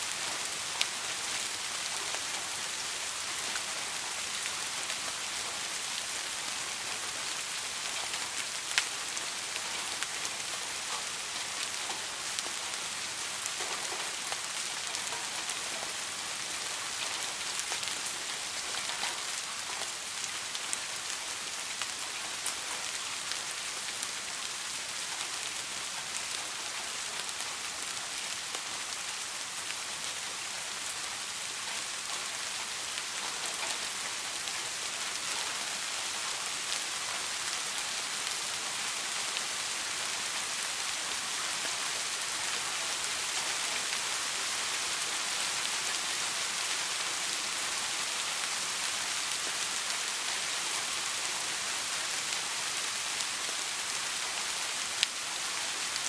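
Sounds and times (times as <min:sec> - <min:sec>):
soft rain hiss: 0:00.0 - 0:56.0.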